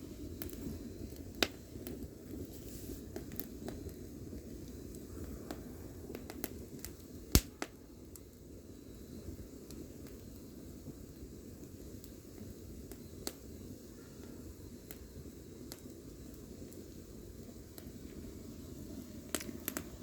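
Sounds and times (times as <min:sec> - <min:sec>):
firewood crackling: 0:00.0 - 0:20.0
loud fire pops: 0:00.0 - 0:20.0
low rush of fire: 0:00.0 - 0:20.0.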